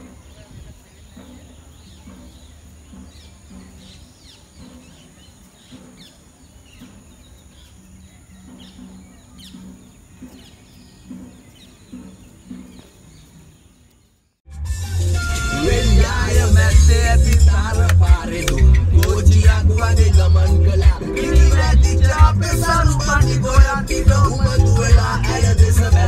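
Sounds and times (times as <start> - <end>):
birds chirping: 0.0 - 14.4, 15.0 - 26.0.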